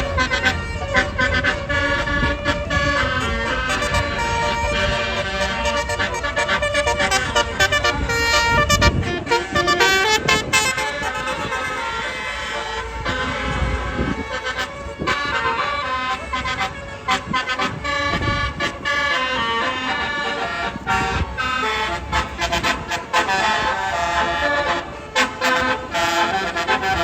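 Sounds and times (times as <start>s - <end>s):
bus musical horn melody: 0.0s - 27.0s.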